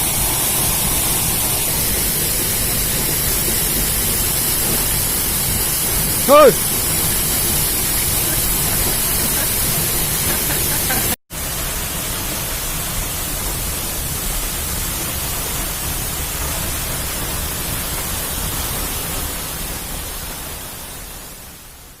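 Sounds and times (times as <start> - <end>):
waterfall: 0.0 - 22.0.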